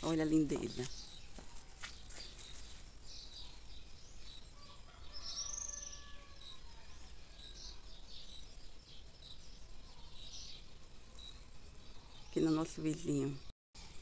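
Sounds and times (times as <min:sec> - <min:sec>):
wild birds chirping: 0:00.0 - 0:14.0.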